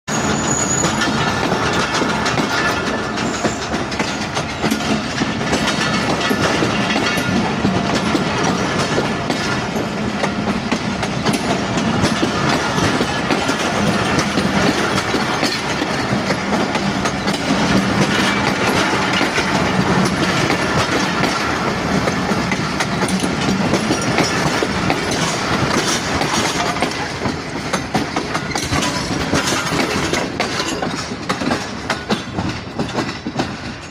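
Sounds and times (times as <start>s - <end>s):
train wheels clattering on rails: 0.1s - 33.9s.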